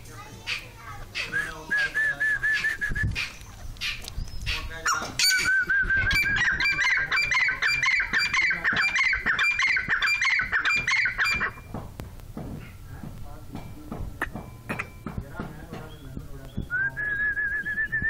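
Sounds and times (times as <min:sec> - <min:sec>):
partridge calling: 0:00.5 - 0:11.8, 0:14.2 - 0:17.3.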